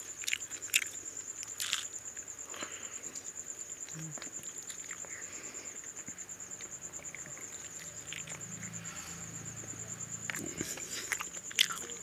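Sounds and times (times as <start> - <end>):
chewing: 0.0 - 2.8, 3.8 - 12.0.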